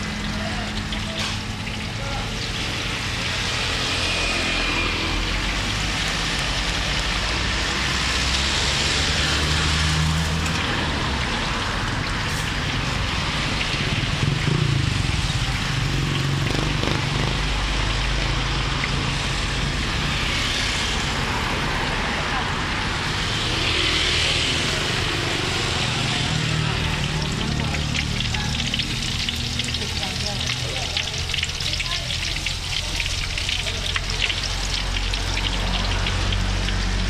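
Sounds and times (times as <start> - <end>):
hot oil sizzling in a wok: 0.0 - 37.0
road traffic rumble: 0.0 - 37.0.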